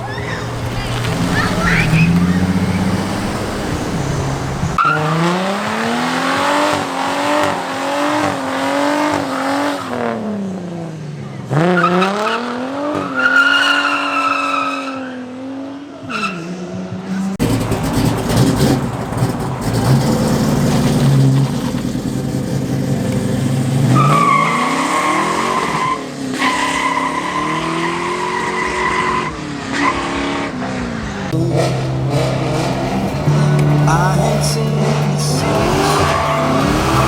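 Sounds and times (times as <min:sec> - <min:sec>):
tires squealing: 0:00.0 - 0:10.3, 0:11.5 - 0:37.0
car engine revving: 0:00.0 - 0:14.4, 0:16.0 - 0:37.0.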